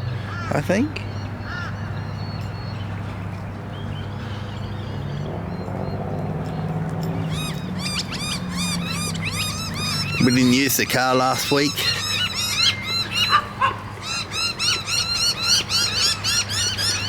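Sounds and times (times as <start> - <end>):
bird chirping: 0.9 - 17.0.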